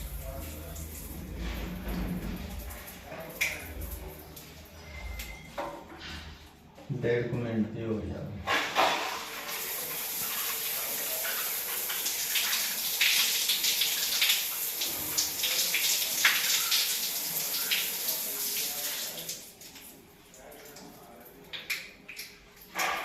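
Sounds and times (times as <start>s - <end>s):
water running from shower: 0.0s - 5.5s, 8.5s - 23.0s.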